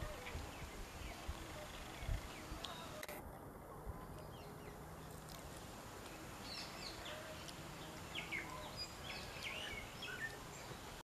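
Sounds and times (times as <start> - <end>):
small birds chirping: 0.0 - 3.1, 3.9 - 11.0
low outdoor hiss: 0.0 - 11.0.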